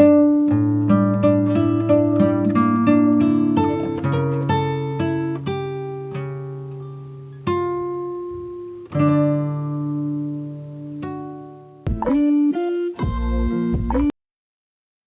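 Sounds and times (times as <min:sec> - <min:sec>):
acoustic guitar playing: 0:00.0 - 0:12.2.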